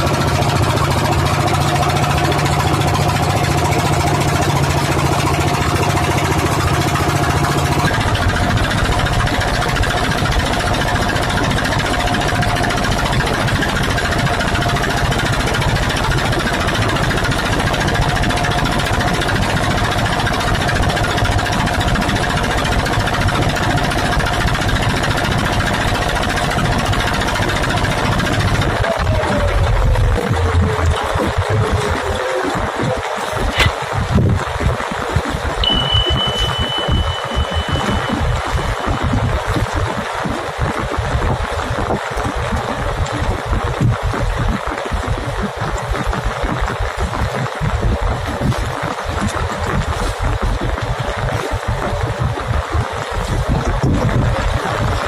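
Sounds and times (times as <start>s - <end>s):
boat engine running: 0.0s - 55.0s
loud wash of noise: 0.0s - 55.0s.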